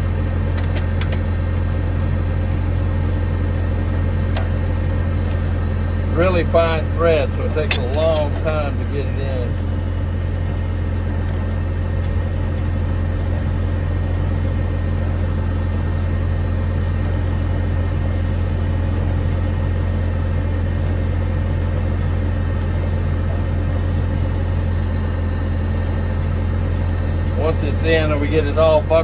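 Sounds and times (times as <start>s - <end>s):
low mechanical drone: 0.0s - 29.0s.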